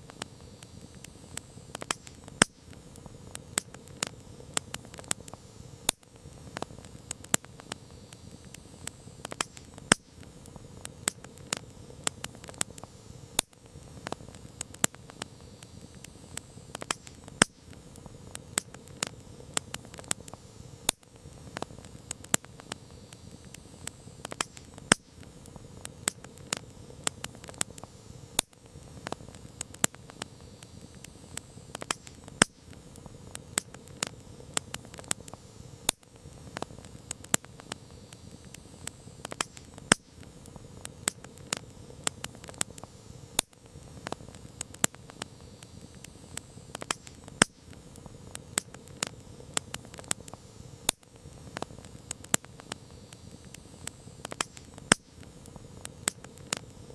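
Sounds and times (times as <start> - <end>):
campfire crackling: 0.0 - 56.9
hiss of burning: 0.0 - 56.9.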